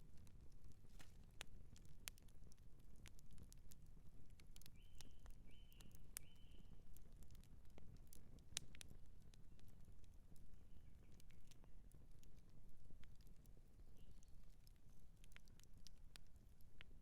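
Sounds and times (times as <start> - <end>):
campfire wood crackling and popping: 0.0 - 17.0.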